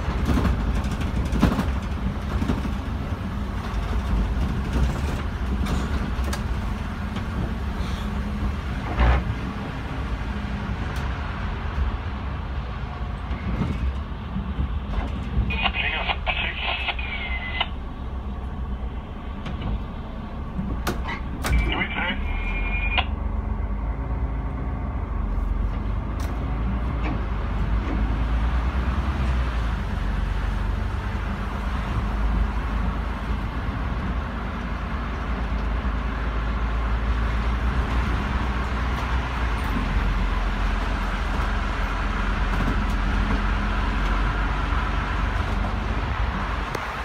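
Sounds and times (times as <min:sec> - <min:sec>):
bus engine rumble on snowy road: 0:00.0 - 0:47.0.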